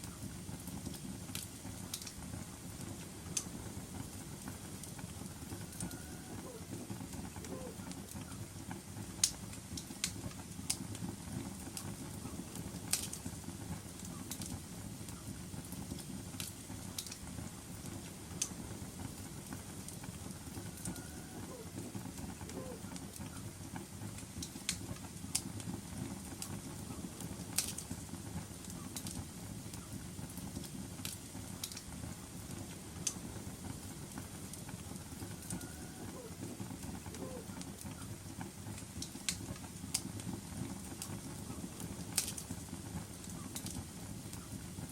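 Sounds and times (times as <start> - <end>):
fire popping and snapping: 0.0 - 44.9
fire rumbling: 0.0 - 44.9.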